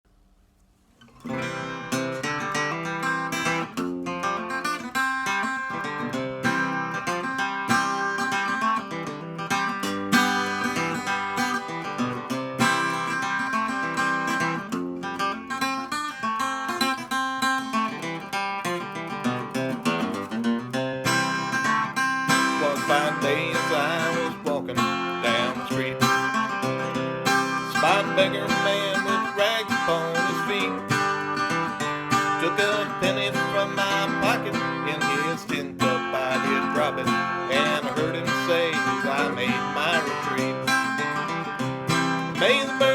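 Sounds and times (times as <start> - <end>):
acoustic guitar strummed and picked: 0.5 - 42.9.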